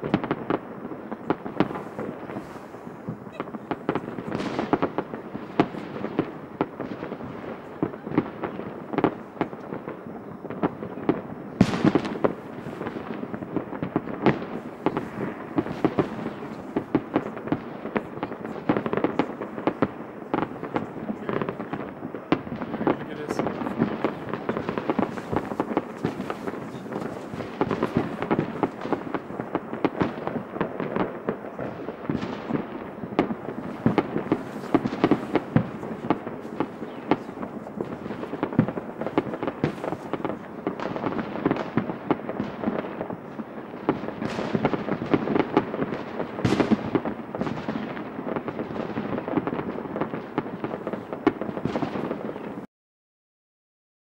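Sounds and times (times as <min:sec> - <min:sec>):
fireworks bangs and crackles: 0:00.0 - 0:52.7.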